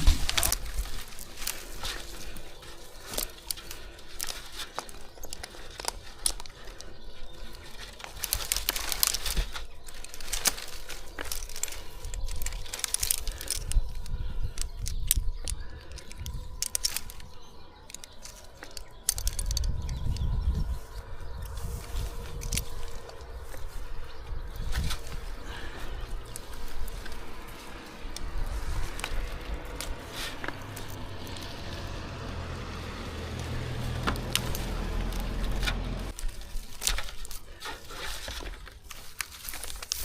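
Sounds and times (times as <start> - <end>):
pine branches rustling and crackling: 0.0 - 40.0.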